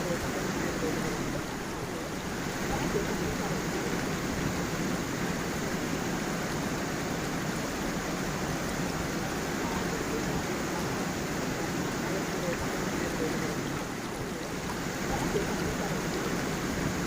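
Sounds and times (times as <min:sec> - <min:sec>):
stream flowing over stones: 0:00.0 - 0:17.0.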